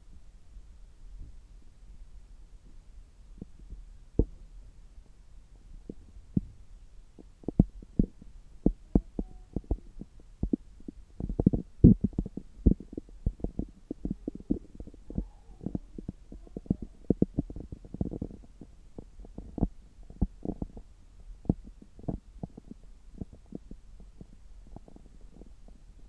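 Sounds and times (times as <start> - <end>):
stomach gurgling and popping: 3.4 - 4.4, 5.8 - 26.0.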